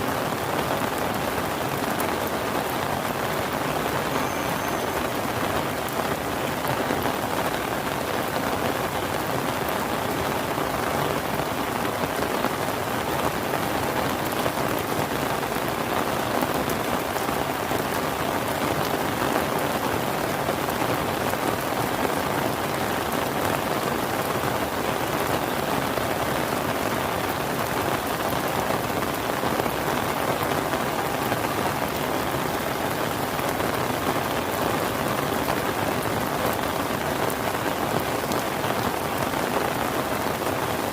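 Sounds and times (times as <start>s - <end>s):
rain falling steadily: 0.0s - 40.9s.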